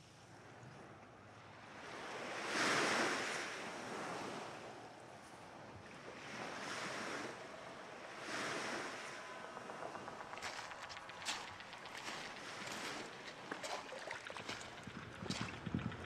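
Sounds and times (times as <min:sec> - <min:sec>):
small sea waves washing in: 0:01.4 - 0:16.0.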